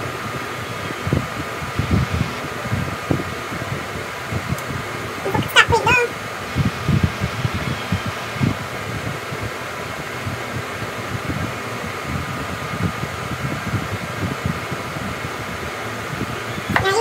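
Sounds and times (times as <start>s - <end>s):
mechanical whirring hiss: 0.0s - 17.0s.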